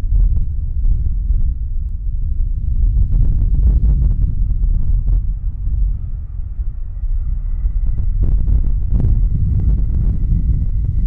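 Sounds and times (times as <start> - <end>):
jet engines rumbling overhead: 0.0 - 11.0
wind buffeting microphone: 0.0 - 11.0.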